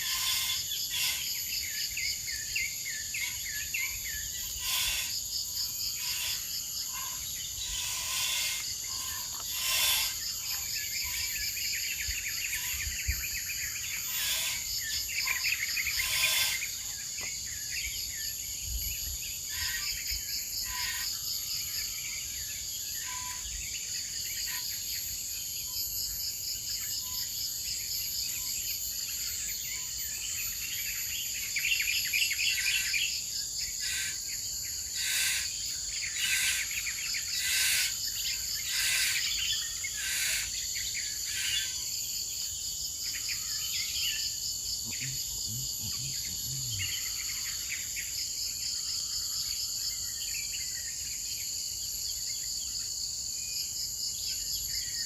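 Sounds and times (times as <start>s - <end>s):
fast pulsing insect trill: 0.0s - 52.0s
insects trilling chorus: 0.0s - 55.0s.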